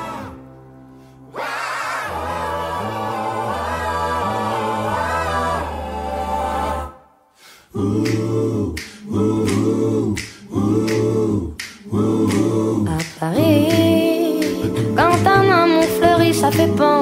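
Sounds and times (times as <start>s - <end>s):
a cappella group singing: 0.0s - 0.5s, 1.3s - 17.0s.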